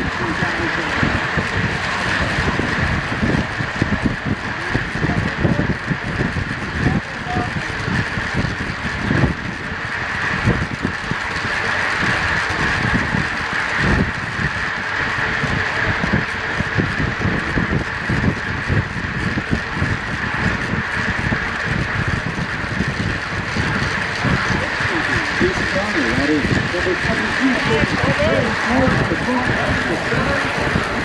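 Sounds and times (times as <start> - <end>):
wind buffeting camera: 0.0 - 31.0.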